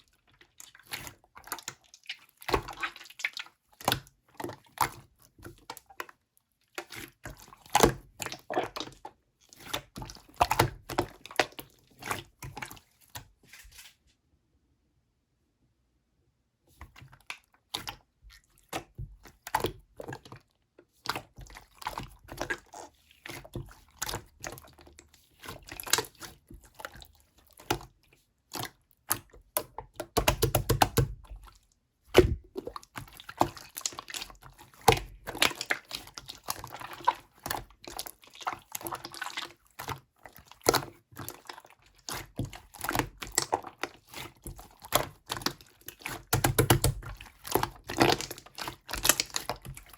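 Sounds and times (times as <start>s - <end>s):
slime squishing with wet clicks: 0.0s - 13.4s, 16.8s - 49.9s.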